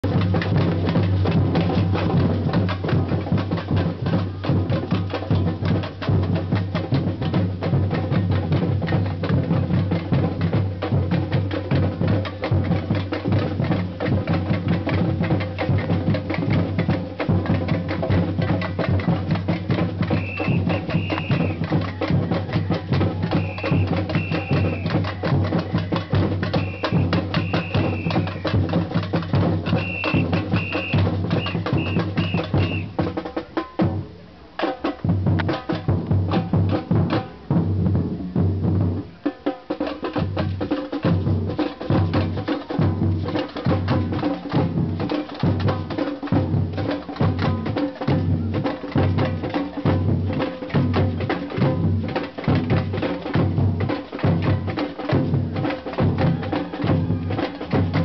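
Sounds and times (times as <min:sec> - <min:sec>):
samba percussion band drumming: 0:00.0 - 0:58.0.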